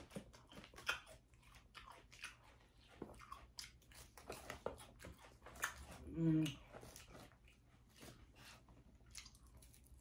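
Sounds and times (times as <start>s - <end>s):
person chewing crisp salad: 0.0s - 10.0s.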